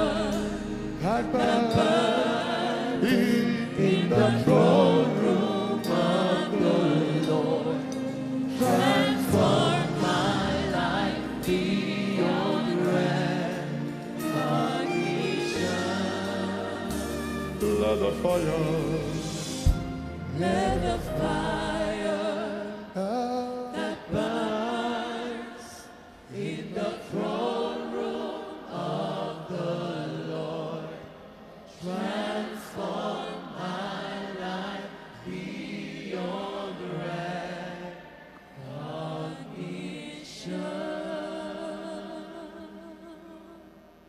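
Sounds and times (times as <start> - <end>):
slow worship singing: 0.0 - 44.0.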